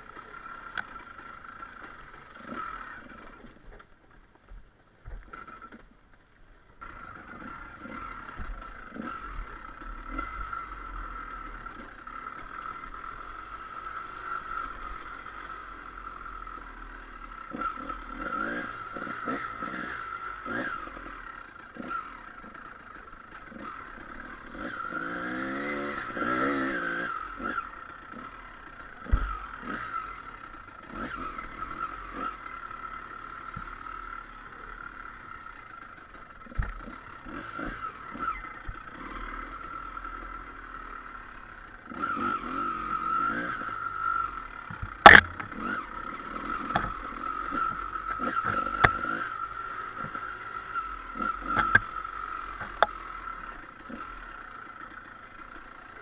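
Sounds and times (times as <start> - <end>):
dirt bike engine revving: 0.0 - 3.6, 6.8 - 56.0
clatter: 0.0 - 56.0.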